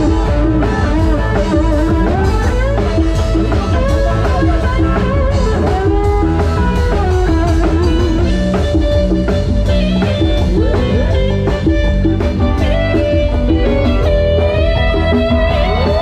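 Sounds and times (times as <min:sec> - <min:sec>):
electric guitar lead melody: 0:00.0 - 0:16.0
live band music through loudspeaker: 0:00.0 - 0:16.0
steady drum beat: 0:00.0 - 0:16.0.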